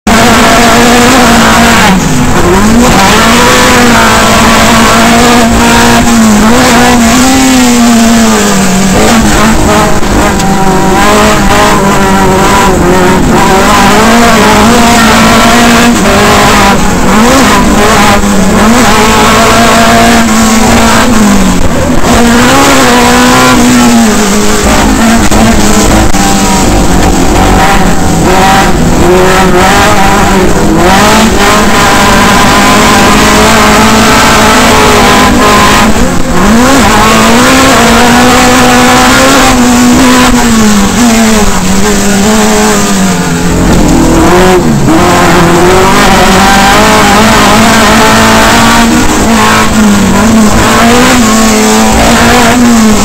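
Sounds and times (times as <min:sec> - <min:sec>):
race truck engine revving: 0:00.0 - 0:53.0.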